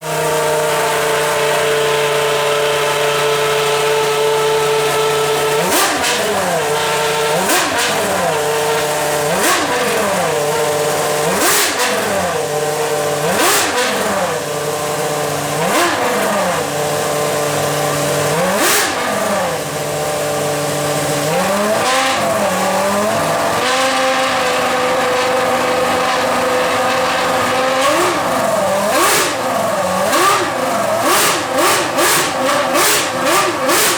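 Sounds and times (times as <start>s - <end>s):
race car engine idling: 0.0s - 33.9s
race car engine revving: 0.0s - 33.9s.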